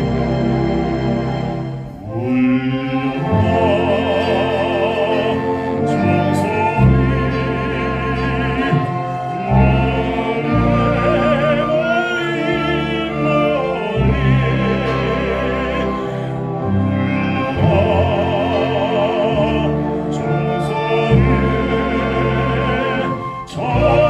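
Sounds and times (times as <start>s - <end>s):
instrumental accompaniment: 0.0s - 24.0s
man singing operatically: 2.0s - 24.0s.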